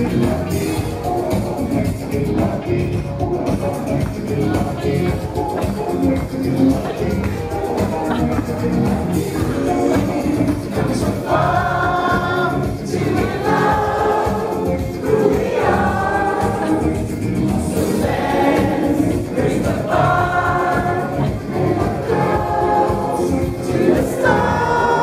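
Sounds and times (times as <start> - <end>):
steady beat: 0.0 - 25.0
voices singing in chorus: 0.0 - 25.0.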